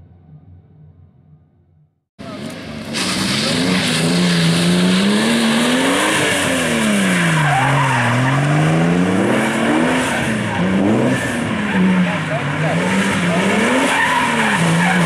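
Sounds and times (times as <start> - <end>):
car engine revving: 2.2 - 15.0
tyre noise on wet asphalt: 2.2 - 15.0.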